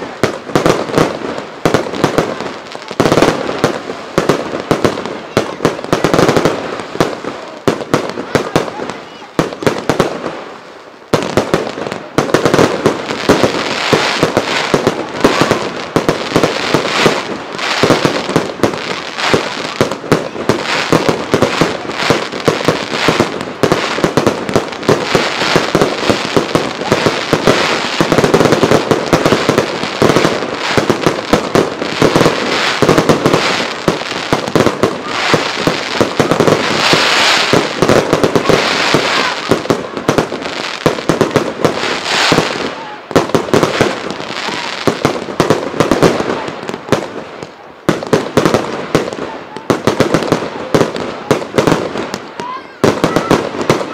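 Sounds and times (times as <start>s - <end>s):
fireworks exploding: 0.0s - 53.9s.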